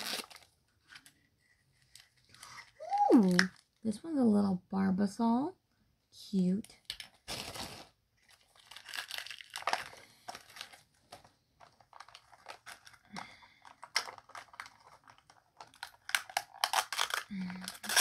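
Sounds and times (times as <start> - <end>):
plastic wrapping crinkling and tearing: 0.0 - 3.9, 6.8 - 18.0.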